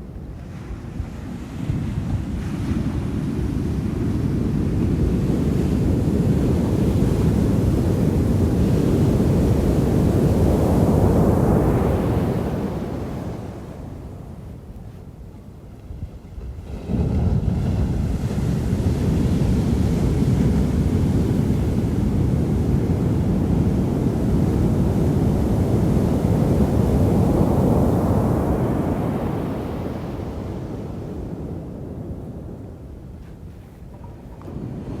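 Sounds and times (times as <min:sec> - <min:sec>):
wave breaking and washing: 0:00.0 - 0:14.8, 0:15.9 - 0:35.0
wind buffeting microphone: 0:00.0 - 0:35.0.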